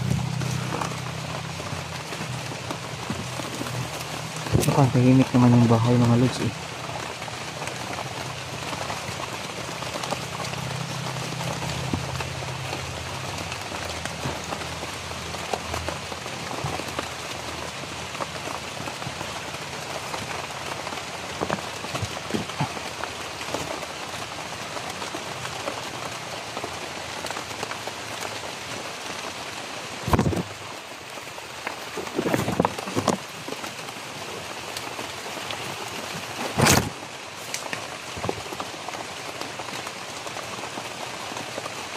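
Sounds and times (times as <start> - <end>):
rain on leaves: 0.0 - 41.9.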